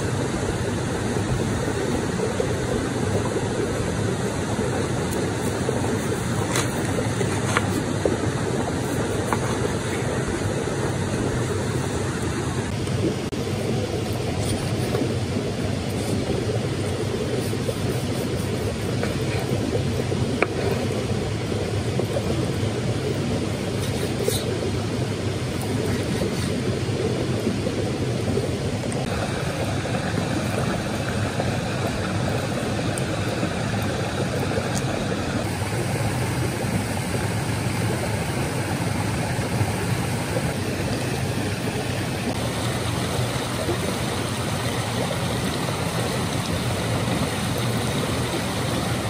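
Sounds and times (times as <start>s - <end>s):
campfire roaring: 0.0s - 49.0s.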